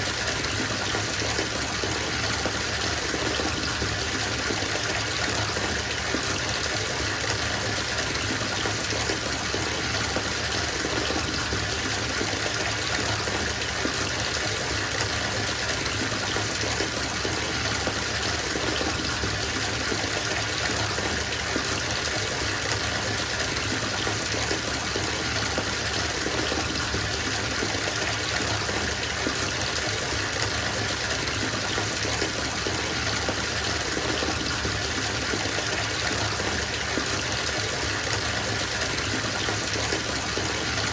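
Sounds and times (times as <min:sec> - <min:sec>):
tap water pouring into a bathtub: 0:00.0 - 0:40.9.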